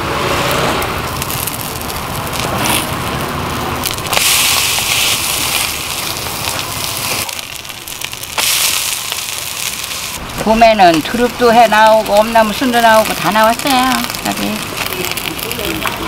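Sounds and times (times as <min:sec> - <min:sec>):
oil sizzling on a griddle: 0:00.5 - 0:16.0.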